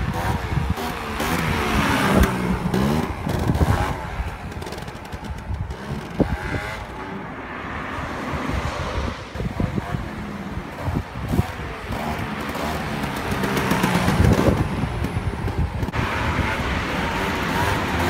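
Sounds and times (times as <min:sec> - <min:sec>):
scooter engine revving: 0:00.0 - 0:07.4, 0:09.3 - 0:18.0.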